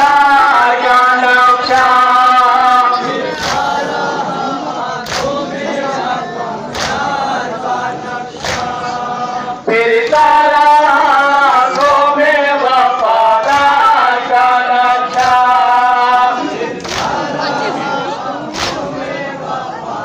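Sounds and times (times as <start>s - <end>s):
men chanting a lament: 0.0s - 20.0s
mixed crowd voices: 0.0s - 20.0s.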